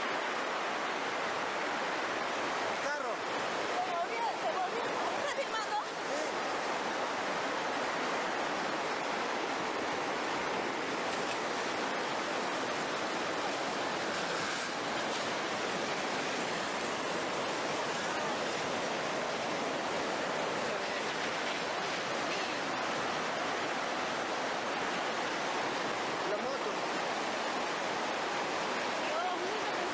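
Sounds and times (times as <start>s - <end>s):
floodwater rushing: 0.0s - 29.9s.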